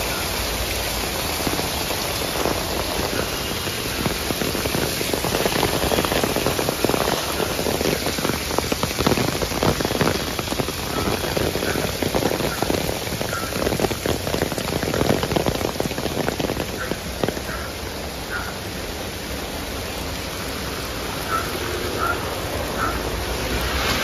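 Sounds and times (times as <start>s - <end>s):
heavy rain on wet pavement: 0.0s - 24.0s.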